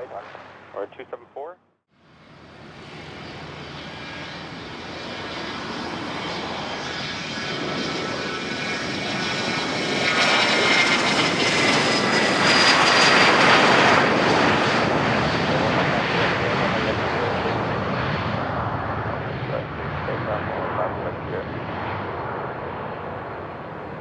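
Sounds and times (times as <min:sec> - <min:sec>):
jet engines whining: 0:00.0 - 0:01.4, 0:02.0 - 0:24.0.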